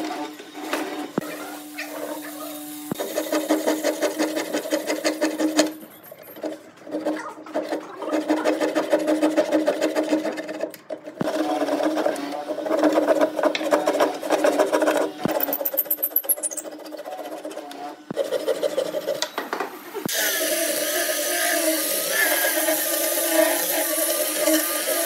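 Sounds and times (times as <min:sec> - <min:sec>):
hand saw cutting wood: 0:00.0 - 0:19.3, 0:20.1 - 0:25.0.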